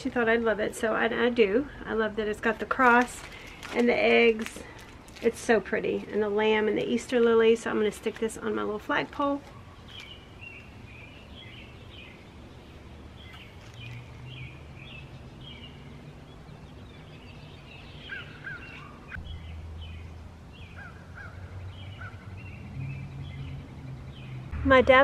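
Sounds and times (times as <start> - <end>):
low steady hum: 0.0 - 25.0
small birds singing: 2.3 - 24.6.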